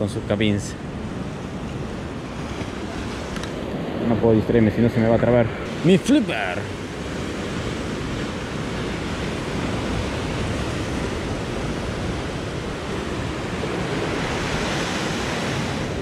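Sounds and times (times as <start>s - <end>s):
ocean surf breaking on rocks: 0.0s - 16.0s.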